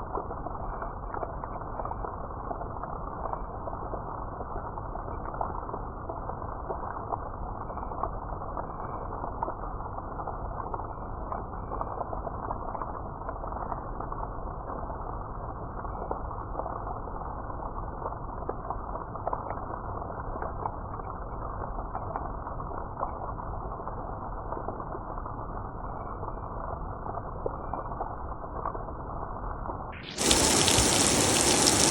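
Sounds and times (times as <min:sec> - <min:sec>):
muffled steady rain: 0:00.0 - 0:31.9.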